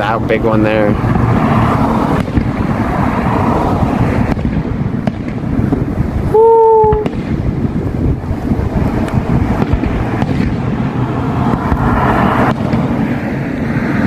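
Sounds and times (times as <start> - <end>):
distant firework bangs: 0.0 - 13.9
wind buffeting microphone: 0.0 - 14.0.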